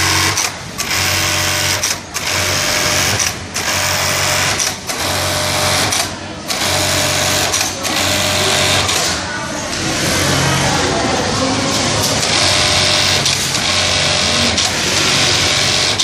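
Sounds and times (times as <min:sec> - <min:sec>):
industrial sewing machine stitching: 0:00.0 - 0:10.6, 0:11.8 - 0:16.0.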